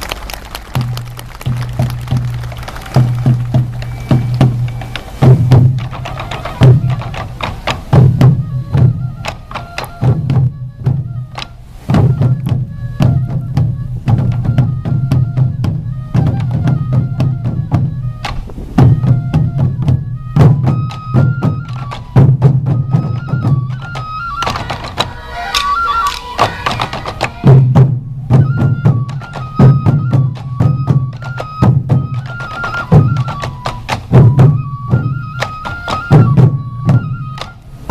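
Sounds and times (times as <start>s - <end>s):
bamboo flute melody: 0.0s - 37.9s
taiko drums beating: 0.0s - 37.9s.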